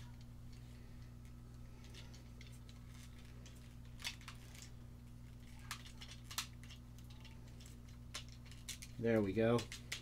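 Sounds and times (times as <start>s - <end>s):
low electrical hum: 0.0s - 10.0s
plastic parts clicking and scraping: 1.8s - 10.0s.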